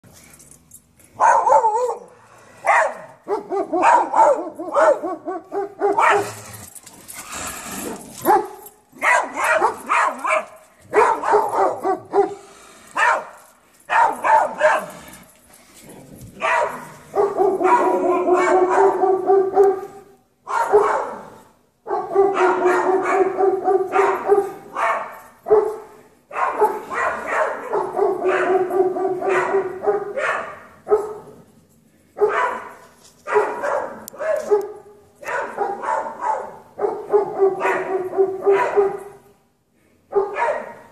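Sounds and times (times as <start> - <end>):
dogs barking and yelping: 1.1 - 31.5, 32.2 - 39.3, 40.1 - 40.9.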